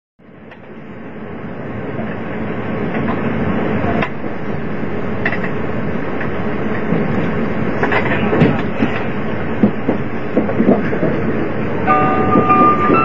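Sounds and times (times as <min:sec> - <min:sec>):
train wheels rushing on rail: 0:00.2 - 0:13.0.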